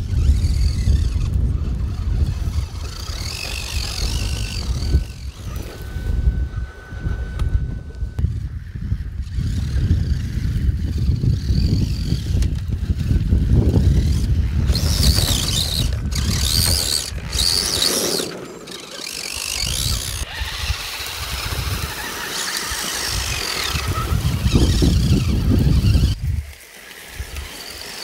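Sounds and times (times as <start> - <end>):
electric motors whining: 0.0 - 28.0.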